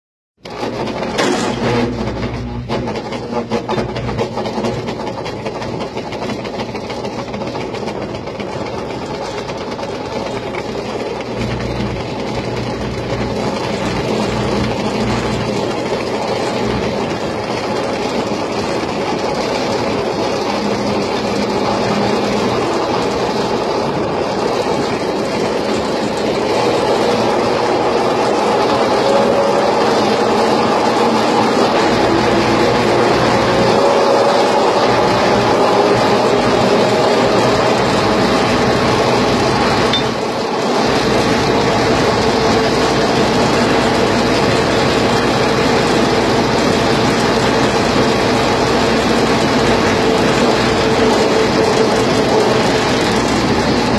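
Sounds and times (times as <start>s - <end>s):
carnival ride mechanical running: 0.4s - 53.9s.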